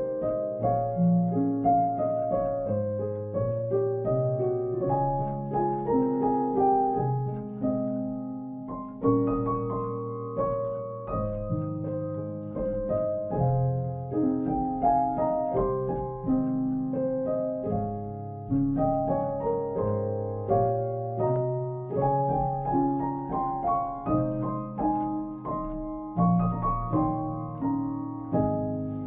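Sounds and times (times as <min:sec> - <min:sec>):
gentle solo piano melody: 0:00.0 - 0:29.0.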